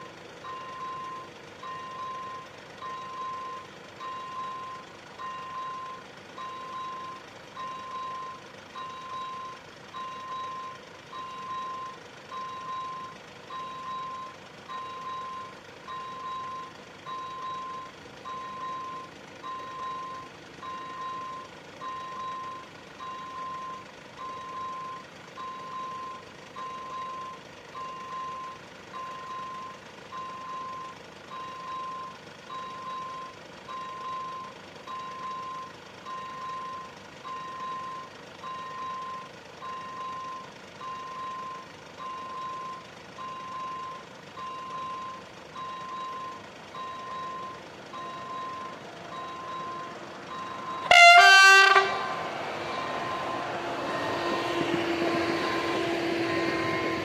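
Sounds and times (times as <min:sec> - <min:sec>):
level crossing warning bell beeping: 0:00.0 - 0:54.4.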